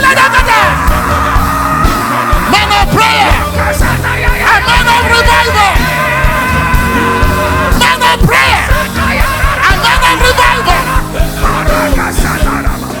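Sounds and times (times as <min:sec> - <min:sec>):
congregation praying aloud: 0:00.0 - 0:13.0
keyboard chords: 0:00.0 - 0:13.0
steady drum beat: 0:00.0 - 0:13.0.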